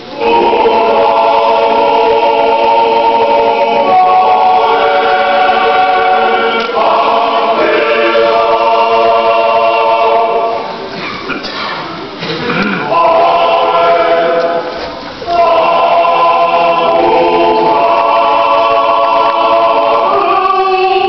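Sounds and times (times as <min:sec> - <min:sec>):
church choir singing a hymn: 0:00.0 - 0:11.0, 0:12.5 - 0:21.0.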